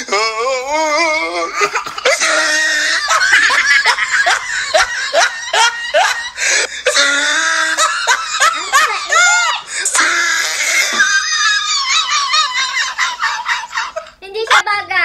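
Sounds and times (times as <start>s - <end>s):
woman laughing hard: 0.9s - 14.2s.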